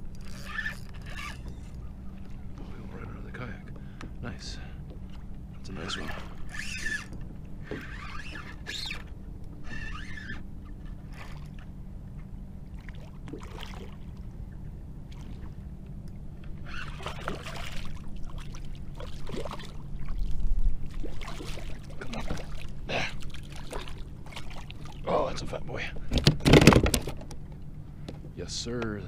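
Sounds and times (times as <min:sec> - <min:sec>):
water lapping and splashing: 0:00.0 - 0:28.1.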